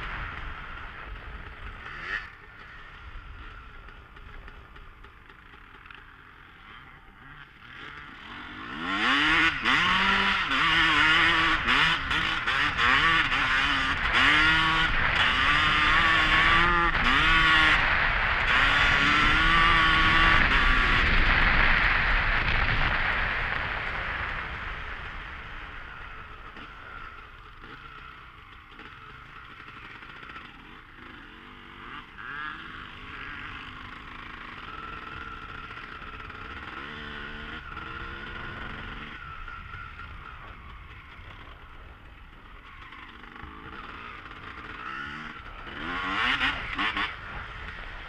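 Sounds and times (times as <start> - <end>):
motor vehicle running: 0.0 - 48.0.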